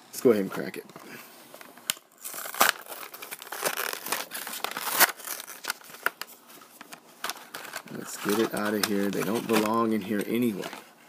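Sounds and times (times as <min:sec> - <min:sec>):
plastic blister pack crinkling: 0:01.6 - 0:11.0.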